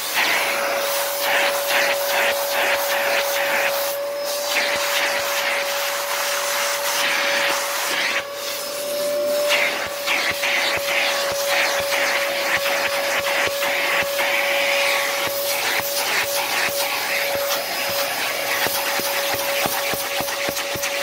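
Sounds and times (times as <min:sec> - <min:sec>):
suction hose sweeping upholstery: 0:00.0 - 0:21.0
vacuum cleaner whining: 0:00.0 - 0:21.0.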